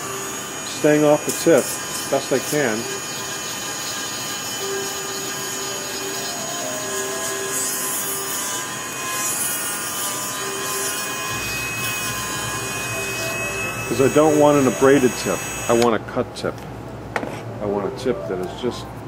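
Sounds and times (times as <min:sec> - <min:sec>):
sanding bit abrading reed: 0:00.0 - 0:15.8
rotary tool motor whine: 0:00.0 - 0:15.9.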